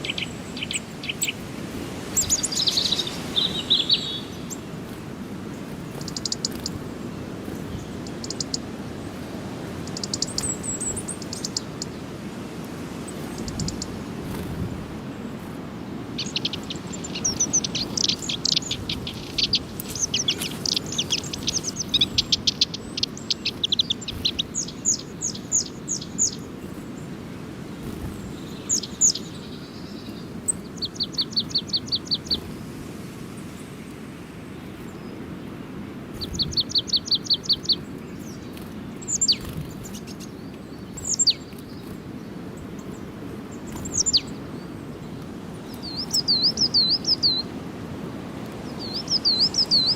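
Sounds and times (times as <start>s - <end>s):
small songbirds chirping: 0.0s - 49.9s.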